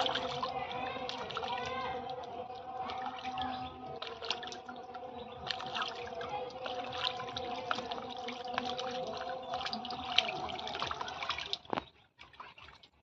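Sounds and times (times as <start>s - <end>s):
steady hum: 0.0s - 11.3s
water splashing and dripping: 0.0s - 13.0s.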